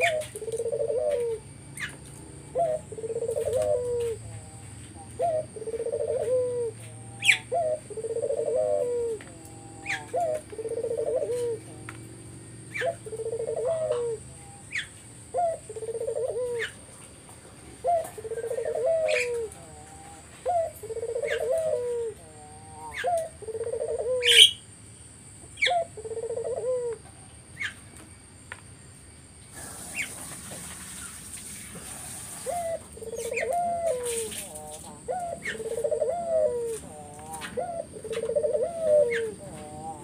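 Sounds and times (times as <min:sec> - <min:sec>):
dove cooing: 0:00.0 - 0:24.8, 0:25.6 - 0:27.8, 0:31.7 - 0:40.0.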